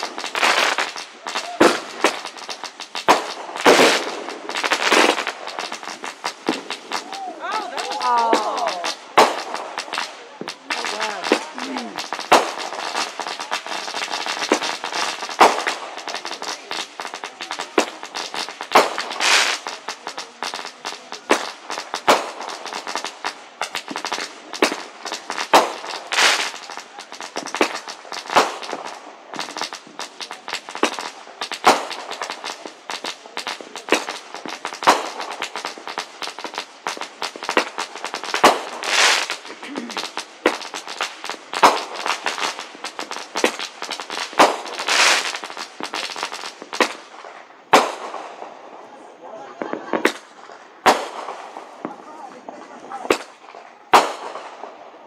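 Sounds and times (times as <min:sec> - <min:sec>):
firework bangs: 0:00.0 - 0:49.0, 0:49.6 - 0:55.0
fireworks crackling and popping: 0:00.0 - 0:55.0.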